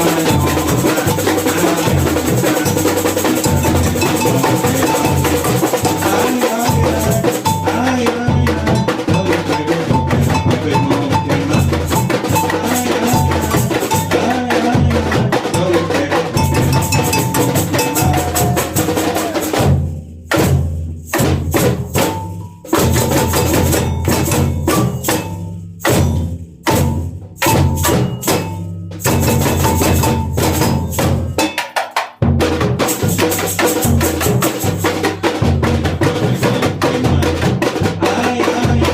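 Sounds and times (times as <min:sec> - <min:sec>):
samba drum band playing: 0:00.0 - 0:38.9.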